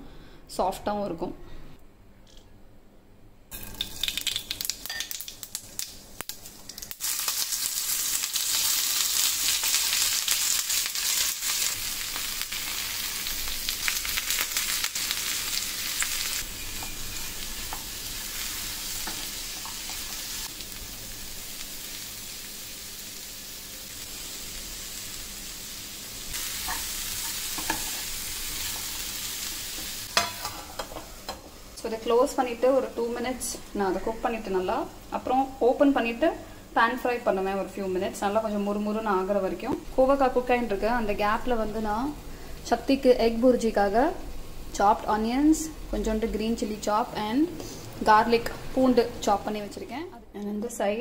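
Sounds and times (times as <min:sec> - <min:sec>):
vegetables sizzling in oil: 0:03.5 - 0:50.1.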